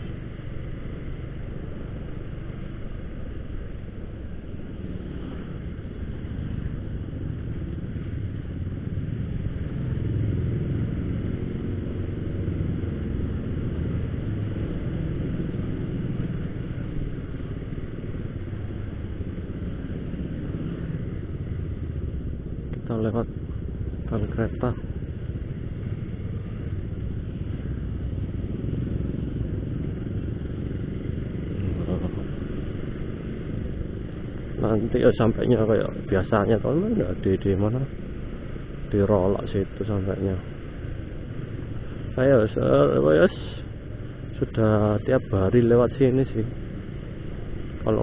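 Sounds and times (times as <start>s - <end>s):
motorcycle engine running: 0.0s - 44.6s
road and wind noise: 0.0s - 48.0s.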